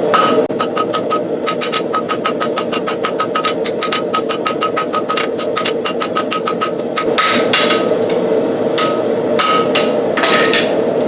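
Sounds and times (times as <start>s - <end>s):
power hammer striking steel: 0.0s - 8.2s, 8.8s - 10.6s.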